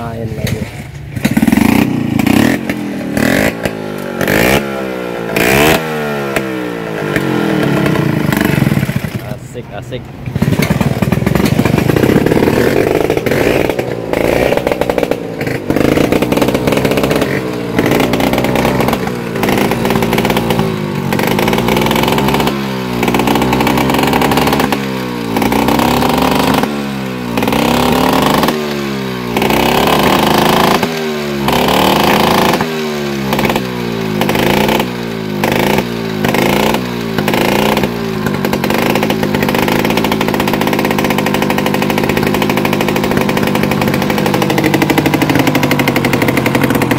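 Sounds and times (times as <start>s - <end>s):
scooter engine revving: 0.0s - 46.9s.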